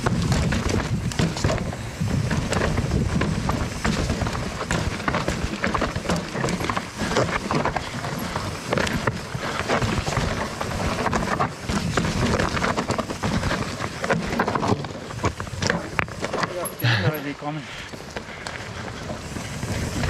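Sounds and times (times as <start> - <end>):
wind on microphone: 0.0 - 16.3, 18.1 - 20.0
bike frame rattling: 0.0 - 20.0
tyres crunching over gravel: 0.0 - 20.0.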